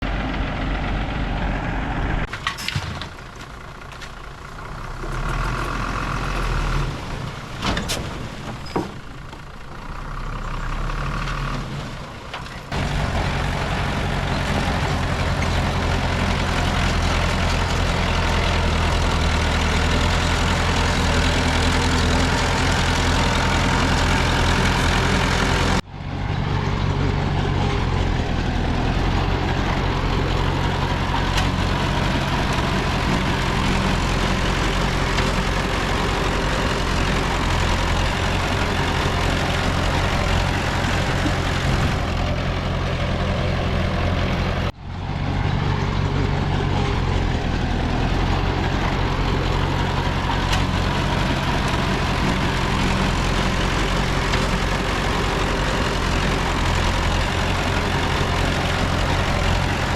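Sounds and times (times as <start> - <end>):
diesel engines humming: 0.0 - 59.9.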